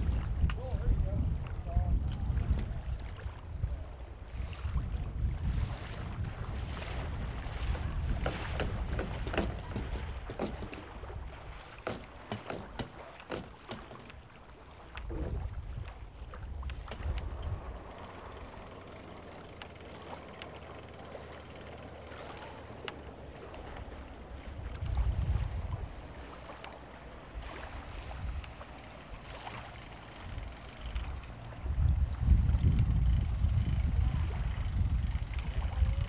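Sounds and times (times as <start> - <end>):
wind buffeting microphone: 0.0 - 13.7, 15.0 - 19.0, 23.1 - 26.3, 27.1 - 36.0
water splashing in shallows: 1.4 - 32.6.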